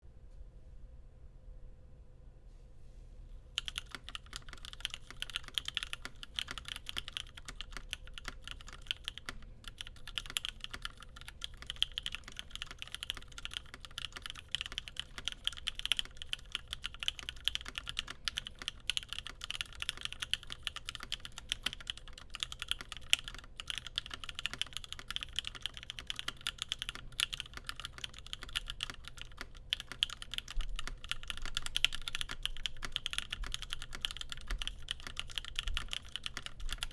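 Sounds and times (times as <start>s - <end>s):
fast typing on mechanical keyboard: 3.6s - 36.9s.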